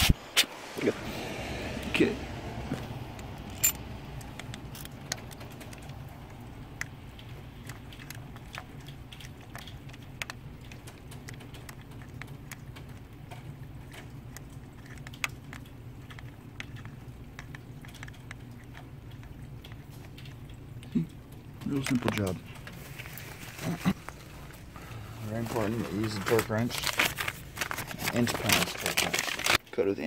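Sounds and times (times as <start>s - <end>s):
steady low hum: 0.2s - 28.1s.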